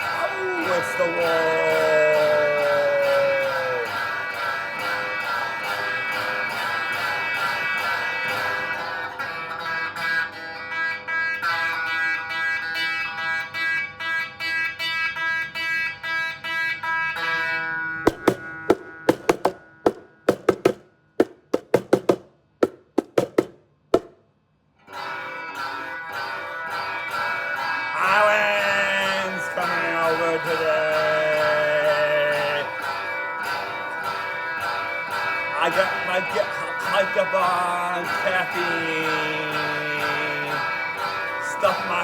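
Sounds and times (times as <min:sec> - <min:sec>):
plucked string music: 0:00.0 - 0:21.8, 0:24.9 - 0:42.0.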